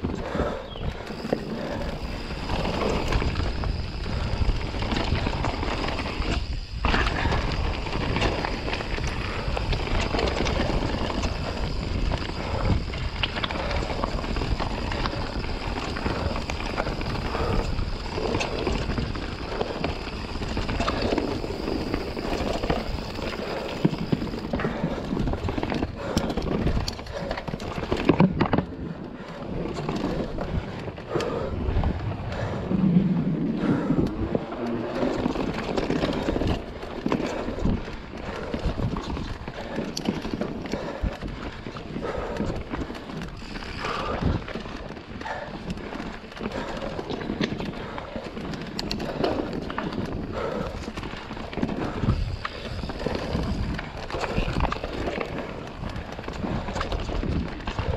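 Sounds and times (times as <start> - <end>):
bike tyres rumbling on dirt: 0.0 - 57.9.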